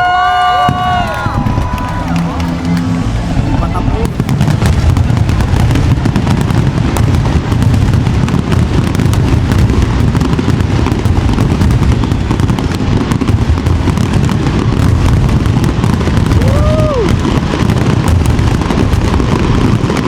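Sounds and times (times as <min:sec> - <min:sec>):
fireworks bursts and crackle: 0:00.0 - 0:20.0
low rumble of booms: 0:00.7 - 0:20.0.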